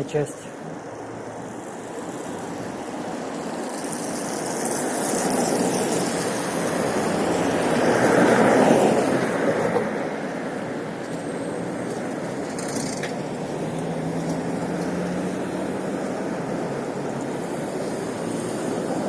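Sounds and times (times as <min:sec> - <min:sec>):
wind rush on motorcycle: 0:02.0 - 0:19.0.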